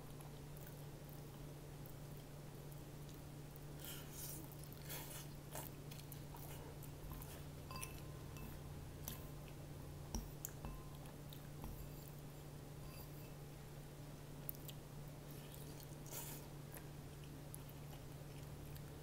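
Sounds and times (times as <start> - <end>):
low steady hum: 0.0 - 19.0
chewing: 0.1 - 2.3, 3.0 - 9.6, 10.2 - 12.2, 14.4 - 19.0.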